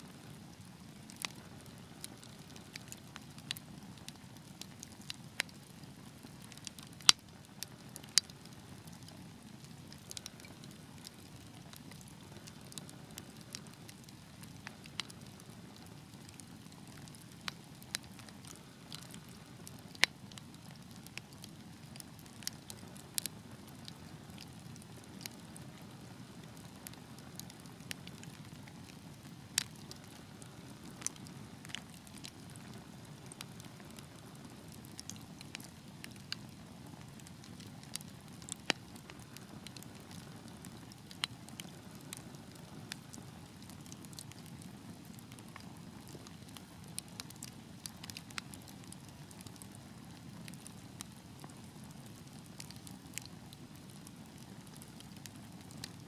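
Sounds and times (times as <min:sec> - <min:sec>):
fire crackling and popping: 0:00.1 - 0:56.0.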